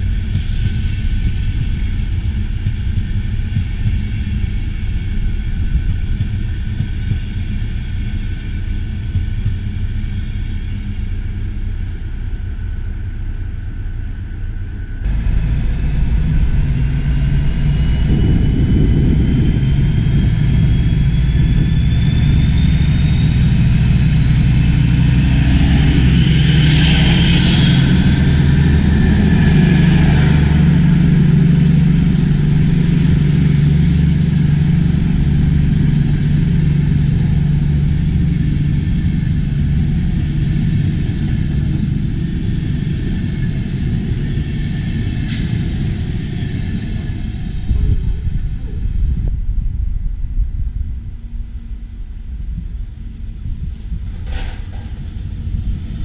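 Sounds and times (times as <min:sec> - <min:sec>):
diesel train engine rumbling: 0:00.0 - 0:56.0
high engine whine: 0:00.0 - 0:56.0.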